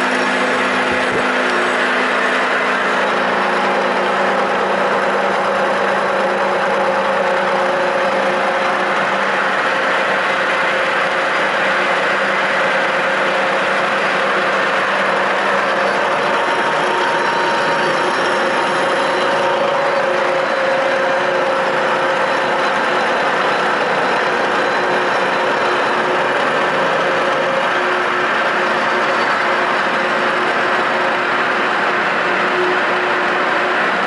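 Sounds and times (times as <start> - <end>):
machine tool humming: 0.0 - 34.0.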